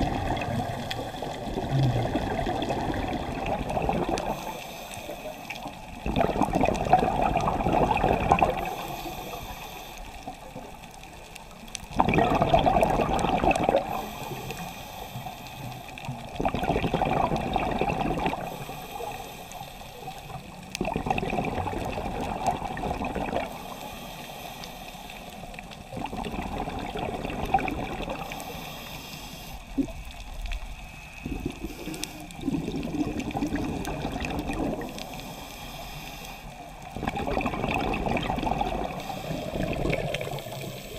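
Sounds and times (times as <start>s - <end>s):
regulator bubbles underwater: 0.0s - 40.9s.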